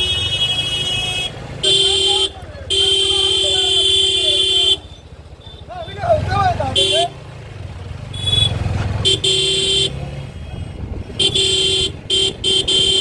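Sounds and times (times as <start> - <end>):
vehicle horn honking: 0.0 - 7.2, 8.1 - 13.0
road traffic: 0.0 - 13.0.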